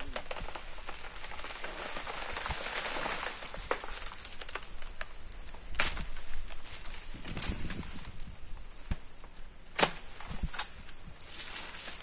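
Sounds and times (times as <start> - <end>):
dry leaves rustling and crackling: 0.0 - 9.2, 9.8 - 12.0.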